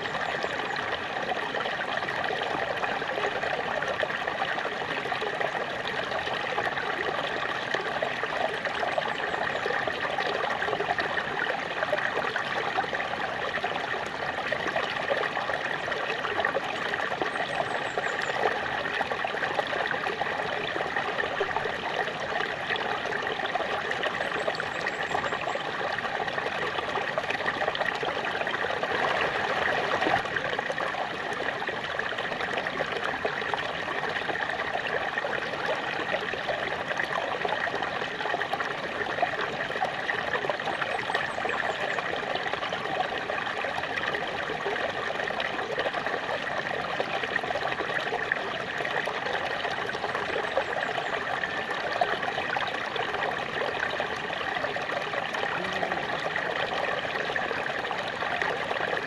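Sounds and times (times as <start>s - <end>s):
small waterfall splashing: 0.0s - 59.0s
water trickling: 0.0s - 59.0s.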